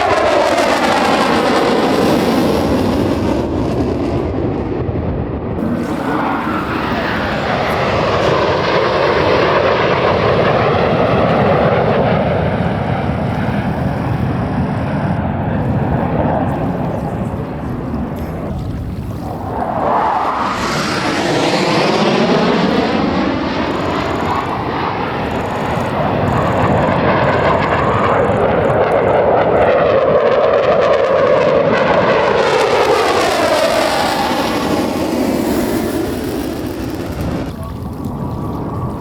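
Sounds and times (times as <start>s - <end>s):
jet roar passing overhead: 0.0s - 39.0s.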